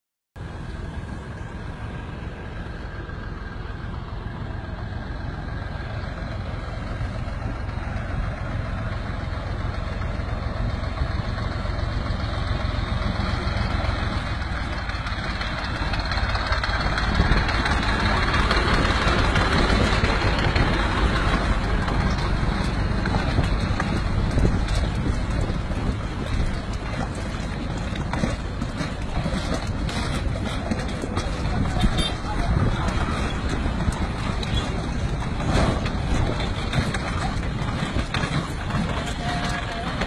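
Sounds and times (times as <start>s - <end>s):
carts rolling past rumble: 0.4s - 40.0s
tractor diesel engine running: 0.4s - 40.0s.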